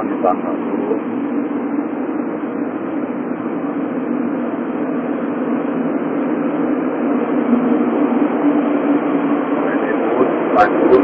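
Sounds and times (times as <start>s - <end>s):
ship engine drone: 0.0s - 11.0s.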